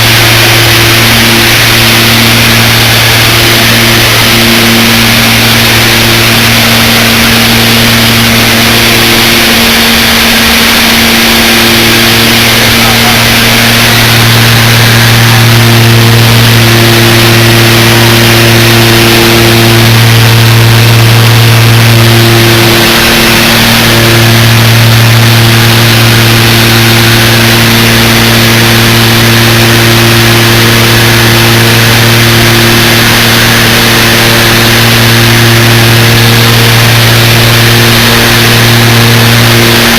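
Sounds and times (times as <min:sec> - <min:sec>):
loud engine drone: 0:00.0 - 0:39.9.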